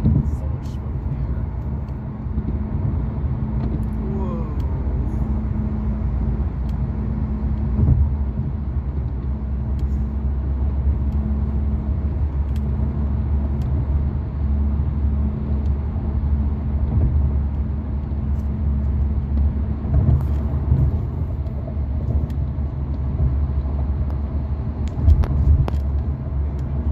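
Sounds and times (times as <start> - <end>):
car road noise: 0.0 - 26.9.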